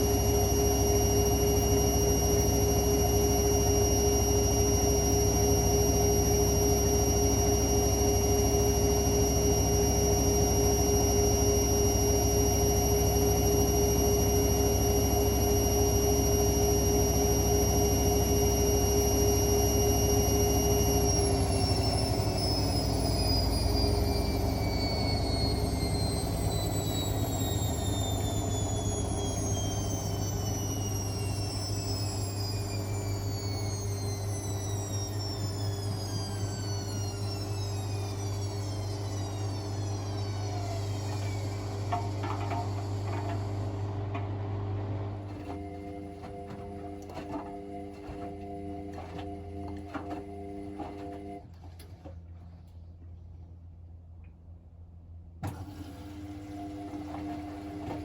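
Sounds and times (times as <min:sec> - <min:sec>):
washing machine spinning: 0:00.0 - 0:52.7, 0:55.3 - 0:58.0.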